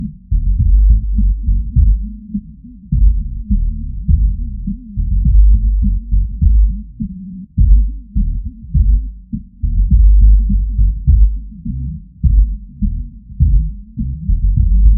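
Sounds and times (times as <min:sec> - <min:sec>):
deep bass music: 0:00.0 - 0:14.9.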